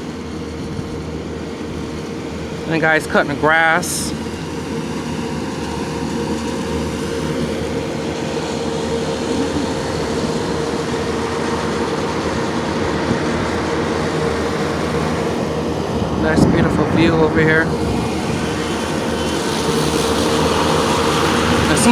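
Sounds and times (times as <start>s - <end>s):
lawn mower engine running: 0.0s - 21.9s.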